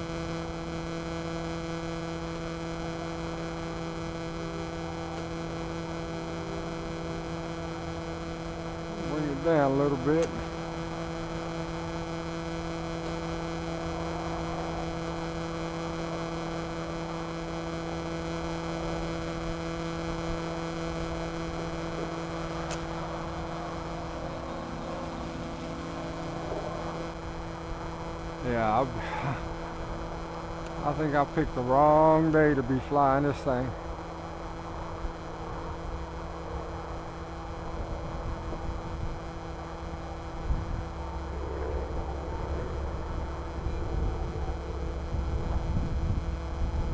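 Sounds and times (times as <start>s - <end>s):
drone motors humming: 0.0s - 46.9s.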